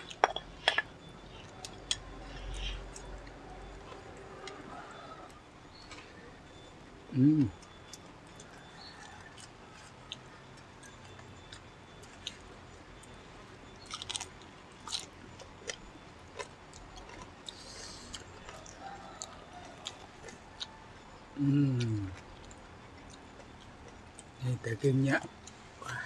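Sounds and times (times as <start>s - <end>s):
soft chewing: 0.0s - 24.6s.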